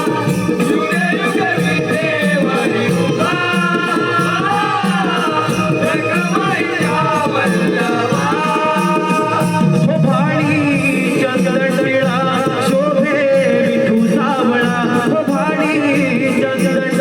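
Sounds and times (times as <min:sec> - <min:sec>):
drum beat: 0:00.0 - 0:17.0
person singing: 0:00.0 - 0:17.0
rattling percussion: 0:00.0 - 0:17.0.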